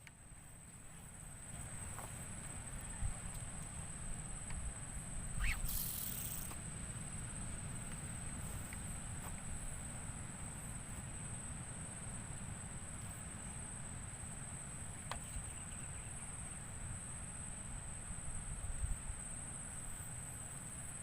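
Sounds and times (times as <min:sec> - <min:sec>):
constant high-pitched whine: 0:00.0 - 0:21.0.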